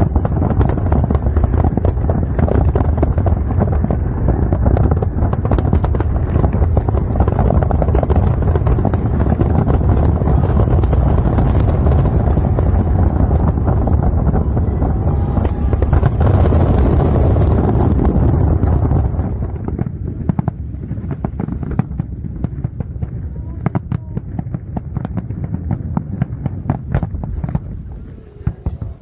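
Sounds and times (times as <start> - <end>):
fireworks booms: 0.0 - 29.0
fireworks crackling: 0.0 - 29.0.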